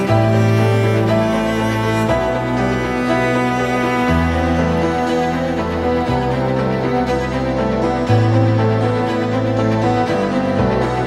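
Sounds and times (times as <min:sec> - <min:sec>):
slow chord background music: 0:00.0 - 0:11.0.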